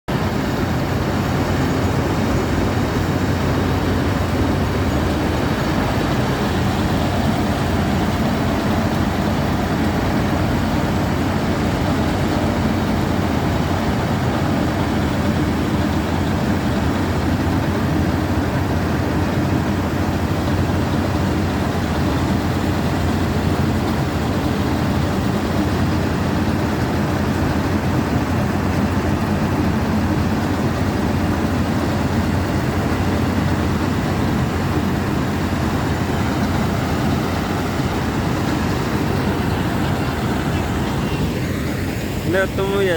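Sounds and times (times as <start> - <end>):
combine harvester running: 0.1 - 42.9.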